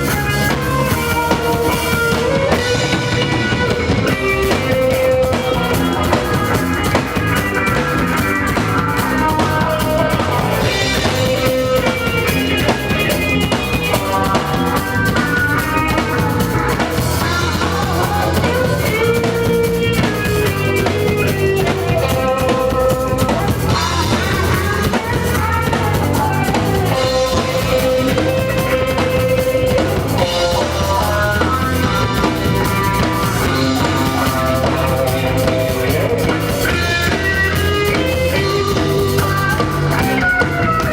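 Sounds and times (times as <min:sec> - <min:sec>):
drum kit: 0:00.0 - 0:40.9
lead guitar melody: 0:00.0 - 0:40.9
rock band playing: 0:00.0 - 0:40.9.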